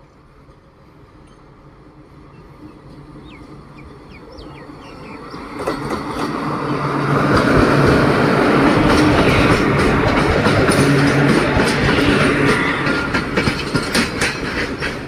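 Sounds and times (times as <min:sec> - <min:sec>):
train rumbling past: 0:00.0 - 0:15.0
wheels clicking over rail joints: 0:02.8 - 0:15.0.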